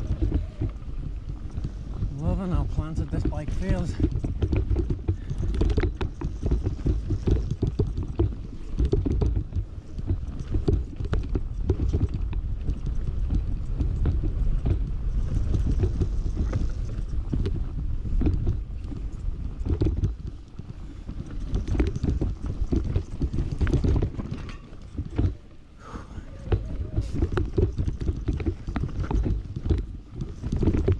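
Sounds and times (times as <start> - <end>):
bike rattling over bumps: 0.0 - 30.9
tyres rumbling over dirt: 0.0 - 30.9
wind buffeting microphone: 0.0 - 30.9.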